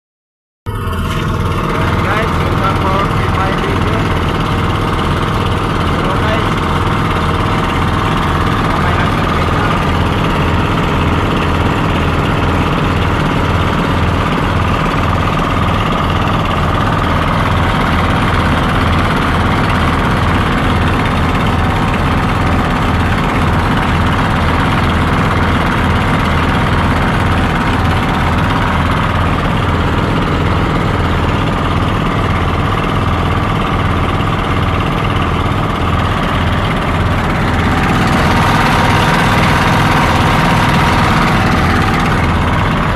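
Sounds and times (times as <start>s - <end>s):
small engine running: 0.7s - 42.9s.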